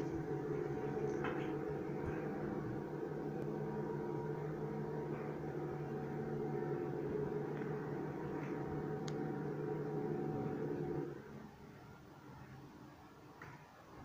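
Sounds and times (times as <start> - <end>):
machinery hum with level tones: 0.0 - 14.0.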